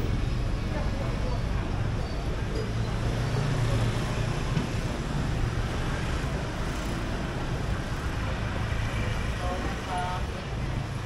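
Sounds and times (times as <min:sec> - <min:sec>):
motorbike and car engines humming: 0:00.0 - 0:11.0.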